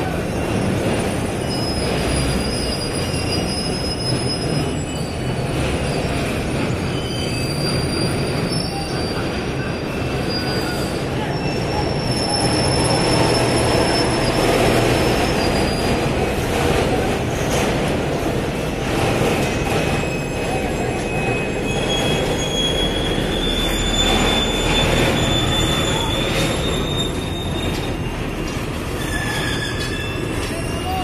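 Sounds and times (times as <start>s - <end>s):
high metal squeals: 0.1s - 16.6s, 19.5s - 31.0s.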